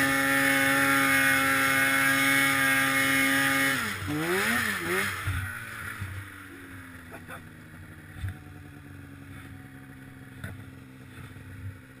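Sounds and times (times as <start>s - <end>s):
snowmobile engine idling: 0.0s - 12.0s.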